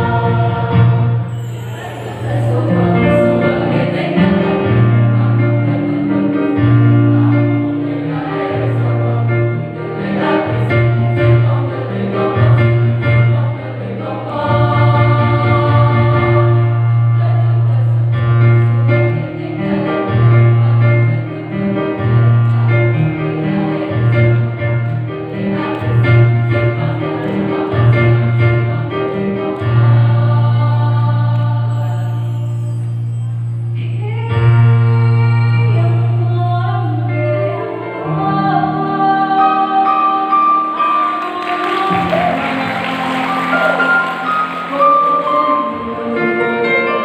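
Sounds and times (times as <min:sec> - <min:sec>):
chorus of voices singing: 0:00.0 - 0:33.2, 0:33.8 - 0:47.0.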